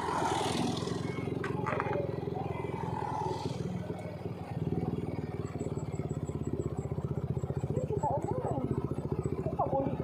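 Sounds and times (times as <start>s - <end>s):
scooter engine pulsing: 0.0s - 10.0s.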